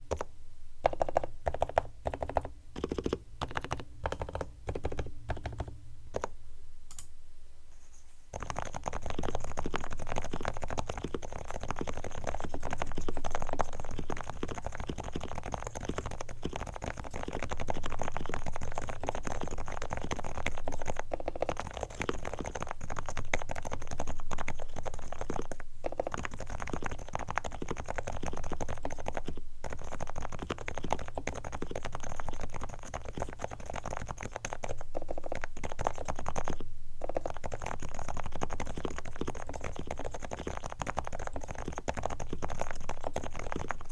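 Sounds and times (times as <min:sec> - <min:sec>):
keyboard typing: 0:00.1 - 0:06.3, 0:08.4 - 0:43.9.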